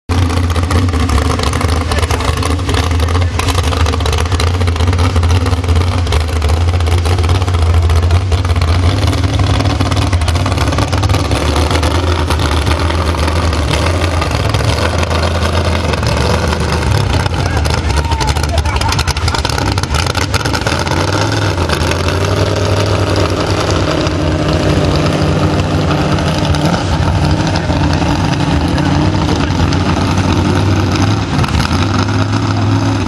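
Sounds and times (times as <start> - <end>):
loud engine running steadily: 0.1 - 33.0.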